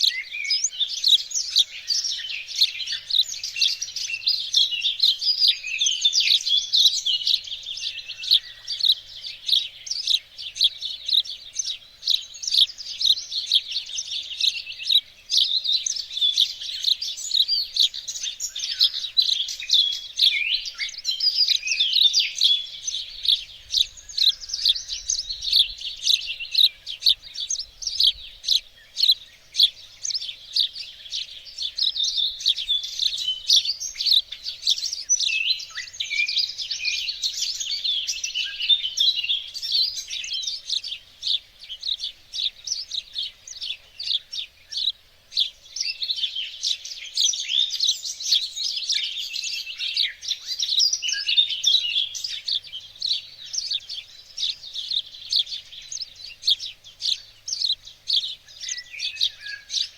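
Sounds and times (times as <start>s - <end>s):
songbirds chirping chorus: 0.0s - 59.9s.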